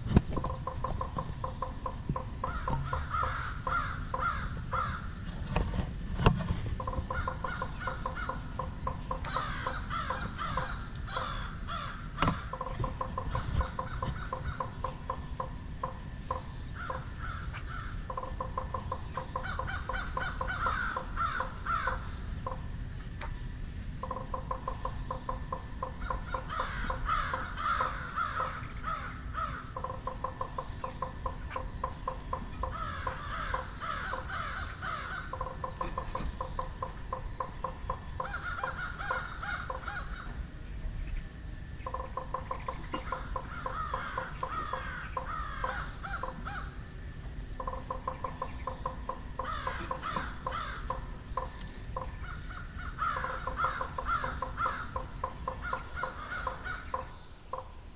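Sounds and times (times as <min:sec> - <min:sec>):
frog croaking: 0:00.0 - 0:23.2, 0:24.0 - 0:57.9.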